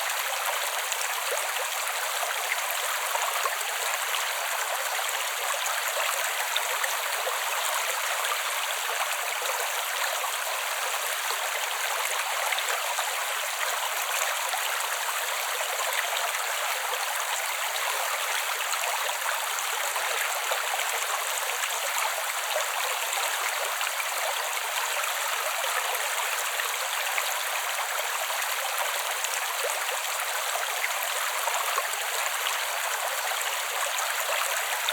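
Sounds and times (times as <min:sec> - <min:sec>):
creek water gurgling: 0:00.0 - 0:34.9.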